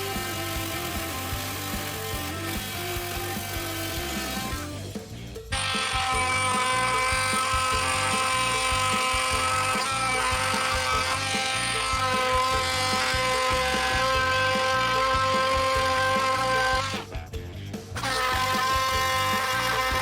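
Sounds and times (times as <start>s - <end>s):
background music with a beat: 0.0s - 20.0s
oscillating multi-tool buzzing: 0.0s - 20.0s.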